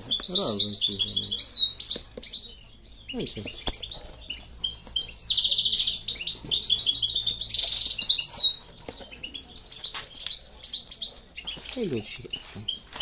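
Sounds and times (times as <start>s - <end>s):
songbirds singing and chirping: 0.0s - 13.0s.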